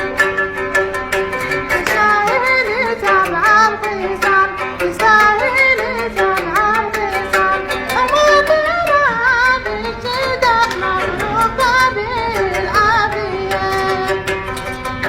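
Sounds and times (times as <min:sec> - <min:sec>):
oud plucked: 0:00.0 - 0:15.0
man singing in high voice: 0:01.8 - 0:14.8.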